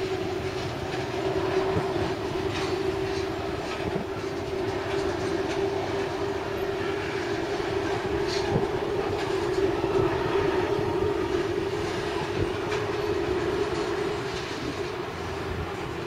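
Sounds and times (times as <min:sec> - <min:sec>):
diesel locomotives droning: 0:00.0 - 0:16.0
train wheels clacking over rail joints: 0:00.0 - 0:16.0.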